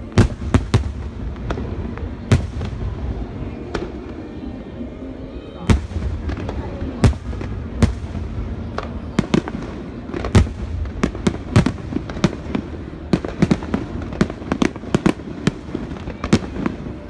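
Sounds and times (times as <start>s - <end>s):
constant low rumble: 0.0s - 17.0s
fireworks bursting: 0.0s - 17.0s.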